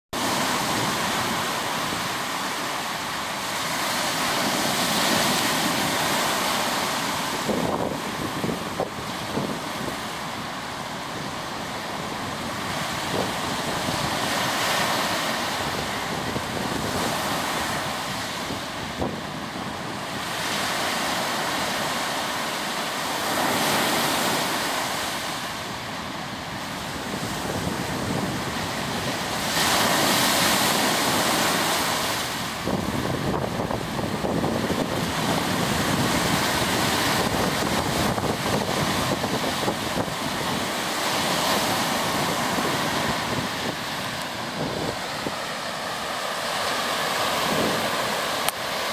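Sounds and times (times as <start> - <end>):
waves breaking on shore: 0.2 - 48.9
wind buffeting microphone: 3.4 - 21.6, 23.5 - 48.9.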